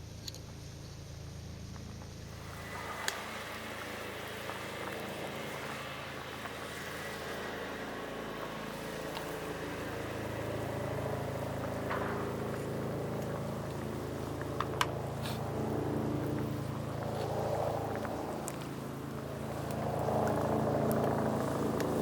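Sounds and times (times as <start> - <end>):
fire crackles: 0.1 - 22.0
wood fire rushing in stove: 1.8 - 22.0.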